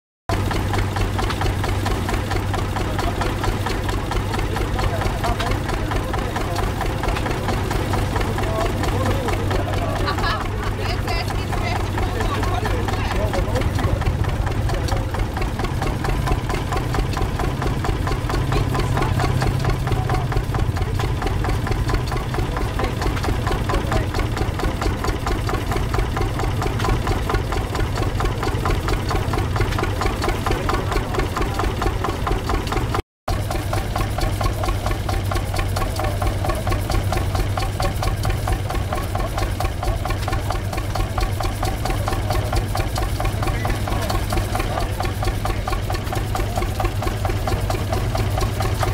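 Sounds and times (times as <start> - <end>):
tractor diesel engine running: 0.3 - 48.9.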